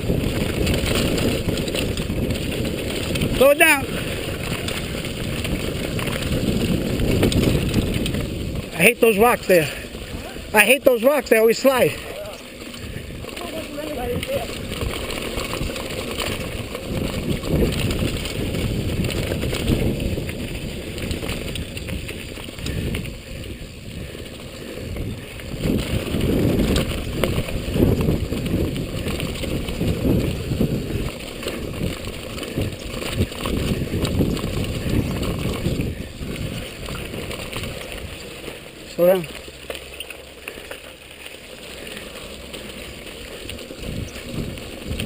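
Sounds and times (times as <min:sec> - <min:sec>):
tyres rolling over dirt and rocks: 0:00.0 - 0:45.0
wind rumbling on microphone: 0:00.0 - 0:45.0.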